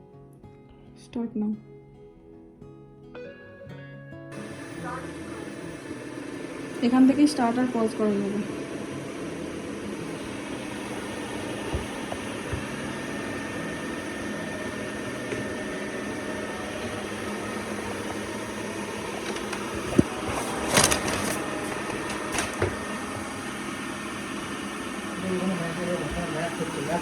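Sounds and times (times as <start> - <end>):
robot vacuum motor hum: 4.4 - 27.0.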